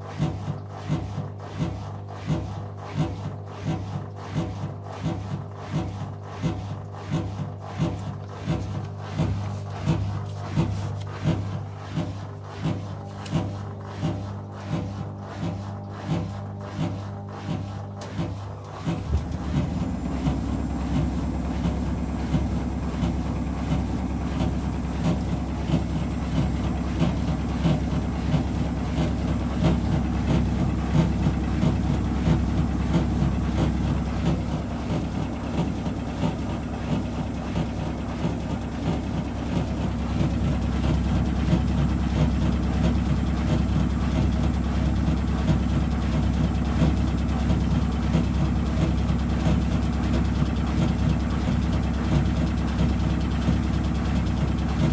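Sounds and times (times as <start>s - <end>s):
washing machine spinning: 0.1s - 54.9s.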